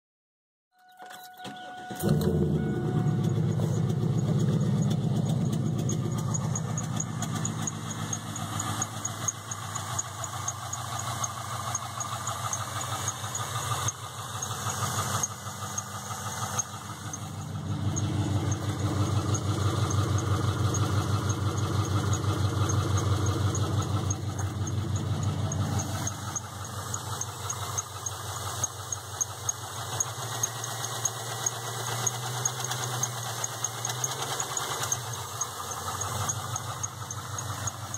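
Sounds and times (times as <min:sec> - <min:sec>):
car engine running: 0:02.0 - 0:37.9
engine knocking tick: 0:02.6 - 0:37.9.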